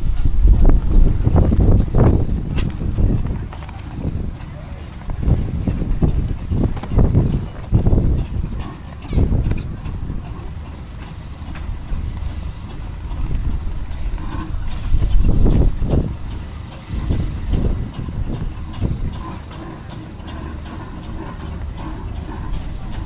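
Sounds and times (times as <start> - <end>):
steam engine chuffing: 0.0 - 23.0.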